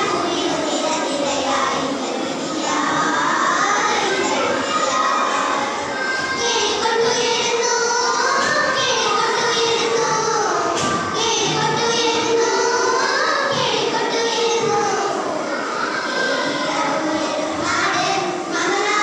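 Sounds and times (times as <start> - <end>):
girls choir singing: 0.0 - 19.0.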